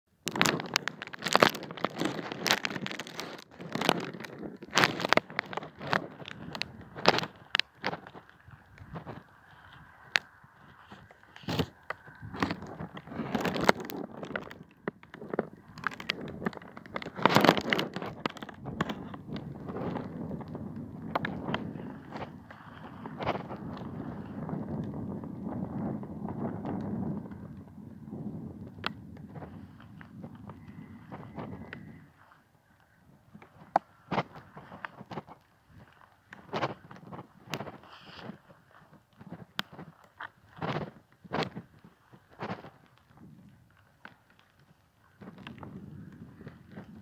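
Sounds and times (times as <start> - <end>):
rustling: 0.2 - 28.0, 28.6 - 47.0
microphone handling crackling: 0.2 - 47.0
sheep tearing and crunching grass: 0.2 - 47.0.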